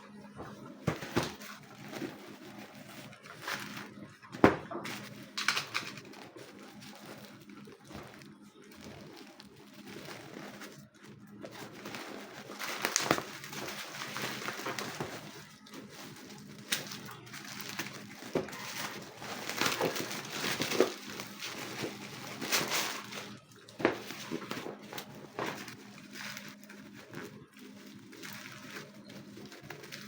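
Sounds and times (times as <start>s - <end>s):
plastic and cardboard rustling: 0.0s - 30.0s
packaging knocks: 0.5s - 30.0s
packaging clicks: 4.8s - 30.0s.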